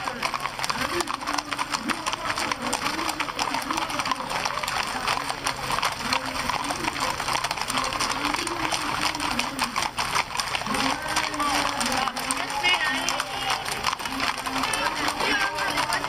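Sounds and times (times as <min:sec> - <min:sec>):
horse hooves clopping on pavement: 0:00.0 - 0:16.0
people's voices: 0:00.0 - 0:16.0.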